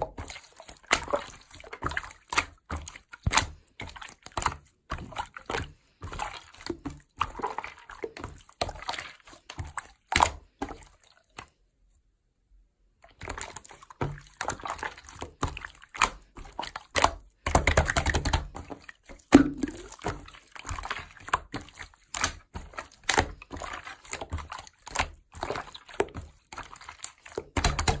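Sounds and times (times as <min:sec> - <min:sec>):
slime squelching by hand: 0:00.0 - 0:11.6, 0:13.0 - 0:28.0.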